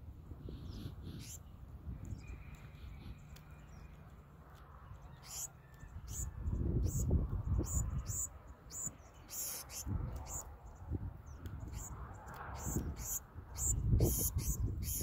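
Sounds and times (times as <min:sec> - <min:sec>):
sparrows chipping: 0:00.0 - 0:15.0.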